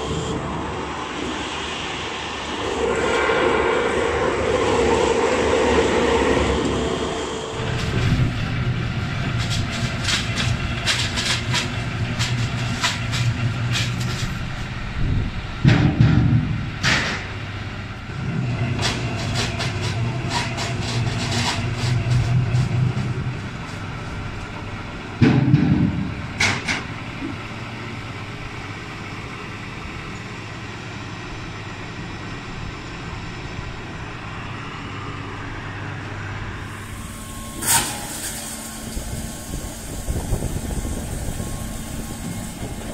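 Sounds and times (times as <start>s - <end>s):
low motor hum: 2.5s - 42.9s.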